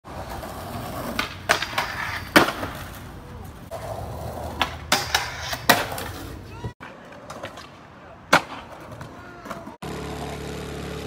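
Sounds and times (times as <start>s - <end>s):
skateboard wheels rolling on concrete: 0.0s - 11.0s
skateboard deck clacking on ground: 0.2s - 9.8s.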